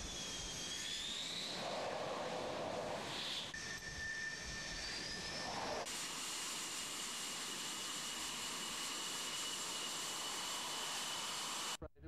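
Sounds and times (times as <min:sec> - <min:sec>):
jet engine running: 0:00.0 - 0:11.9.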